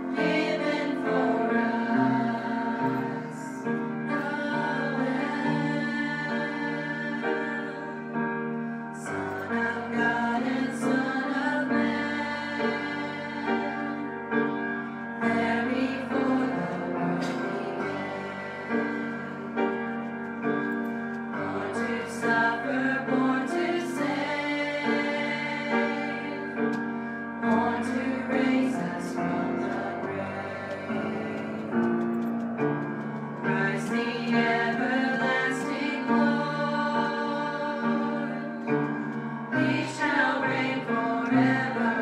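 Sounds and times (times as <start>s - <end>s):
grand piano: 0.0s - 42.0s
women's choir singing: 0.0s - 42.0s.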